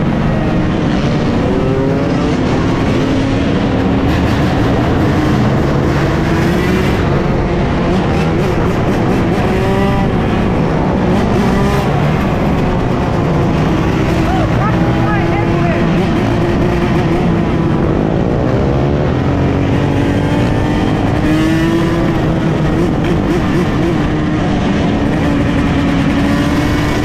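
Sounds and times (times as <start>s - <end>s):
dirt bikes revving: 0.0s - 27.0s.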